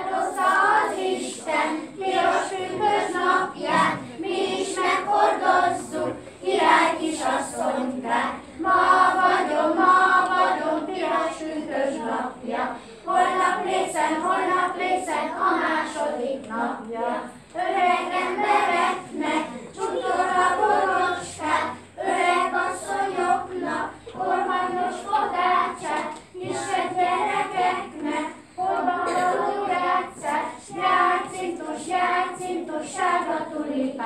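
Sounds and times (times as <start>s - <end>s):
children singing in chorus: 0.0s - 34.0s.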